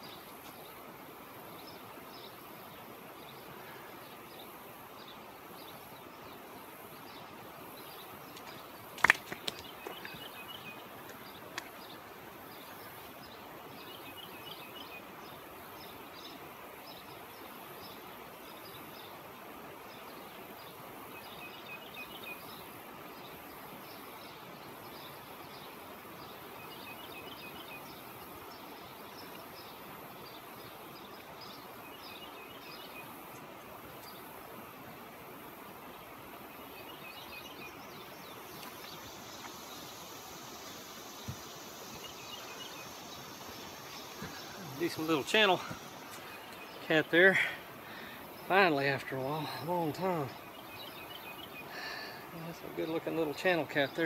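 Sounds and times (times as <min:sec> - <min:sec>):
songbird chirping: 0:00.0 - 0:54.0
steady outdoor hiss: 0:00.0 - 0:54.0.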